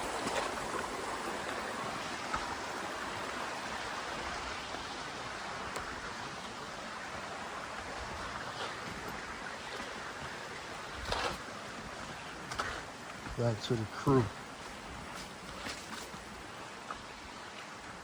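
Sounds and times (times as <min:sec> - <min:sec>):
stream and waterfall rushing: 0:00.0 - 0:18.0.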